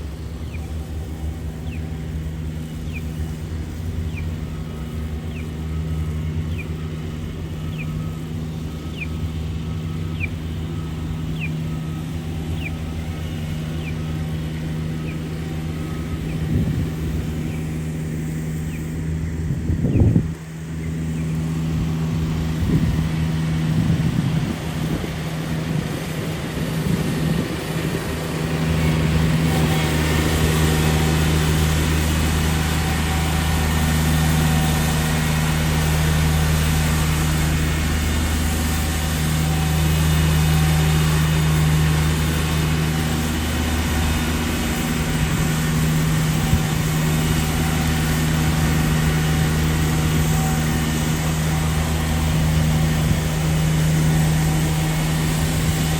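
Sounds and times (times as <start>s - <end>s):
street noise hiss: 0.0s - 55.9s
vehicle engine idling: 0.0s - 55.9s.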